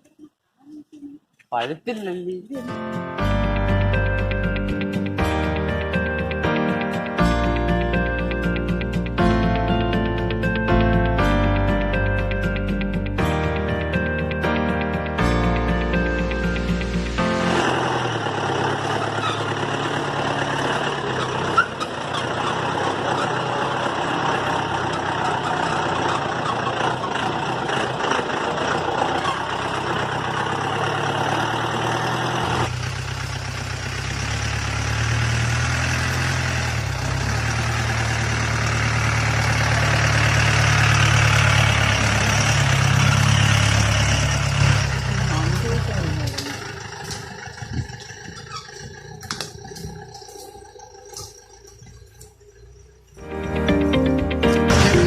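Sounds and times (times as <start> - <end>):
jeep engine running: 3.0 - 55.0
vehicle rattle: 3.6 - 53.2.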